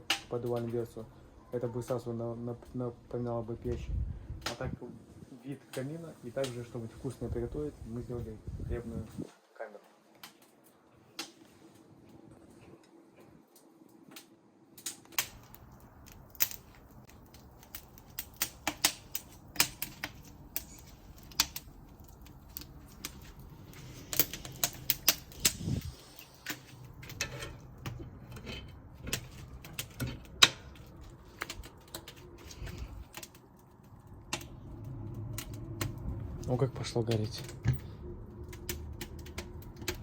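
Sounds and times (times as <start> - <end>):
firewood crackling and popping: 0.0 - 40.0
fire low rumble: 0.1 - 9.4, 10.8 - 40.0.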